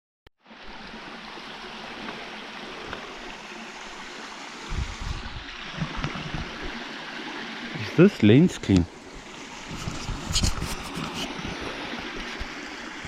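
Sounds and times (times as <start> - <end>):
stream rushing: 0.4 - 13.0.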